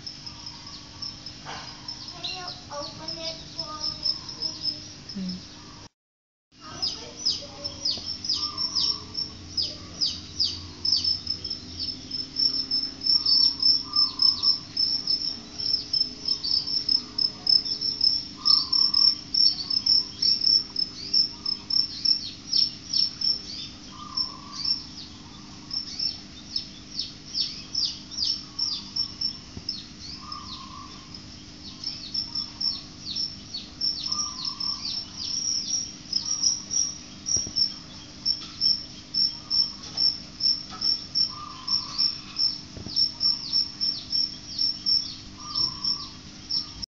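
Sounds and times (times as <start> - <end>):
fainter lower insect call: 0.0 - 5.9, 6.6 - 46.9
insects chirping: 0.0 - 5.9, 6.6 - 46.9.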